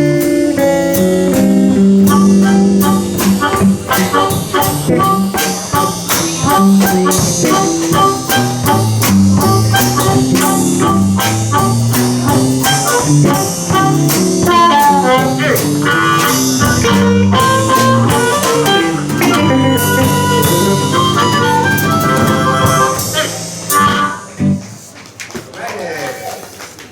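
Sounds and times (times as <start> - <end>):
blues band playing boogie: 0.0 - 25.2.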